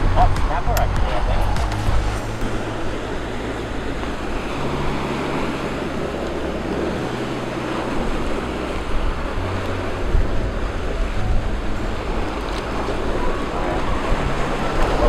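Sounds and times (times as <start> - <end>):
low held bass notes: 0.0 - 15.0
surf: 0.0 - 15.0
wind: 0.0 - 15.0.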